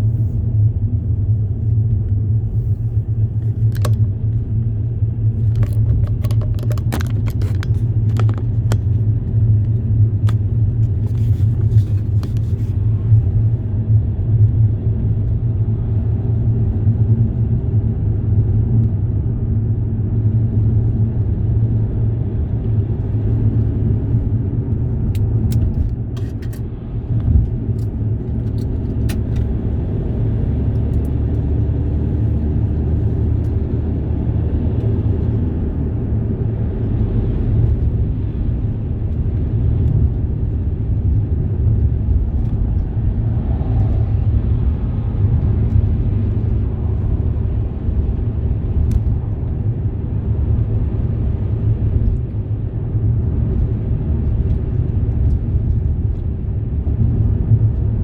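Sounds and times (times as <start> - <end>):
road vehicle engine and tyre noise: 0.0 - 58.0.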